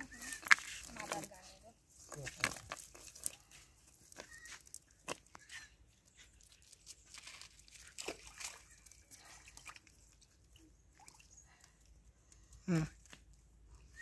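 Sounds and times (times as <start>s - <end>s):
rustling of wet net: 0.0s - 11.8s.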